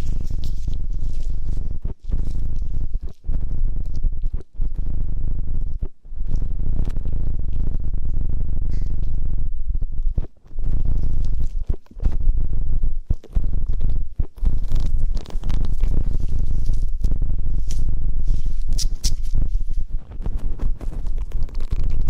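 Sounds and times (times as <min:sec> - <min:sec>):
close rubbing and scratching: 0:00.0 - 0:09.2, 0:09.9 - 0:22.0
crackly clicks: 0:00.0 - 0:22.0.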